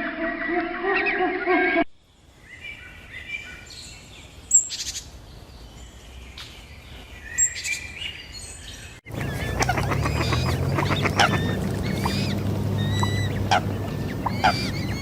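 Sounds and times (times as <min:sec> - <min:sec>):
small birds chirping: 0:02.2 - 0:15.0.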